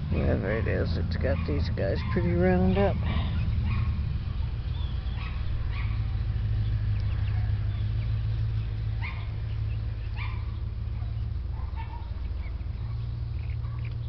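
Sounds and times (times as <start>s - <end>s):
low engine hum: 0.0s - 14.0s
small dogs yapping: 0.1s - 6.4s, 7.0s - 8.0s, 8.7s - 14.0s.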